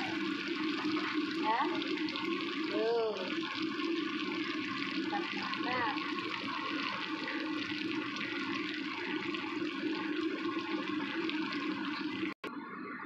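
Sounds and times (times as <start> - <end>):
oil sizzling in a wok: 0.0 - 12.4.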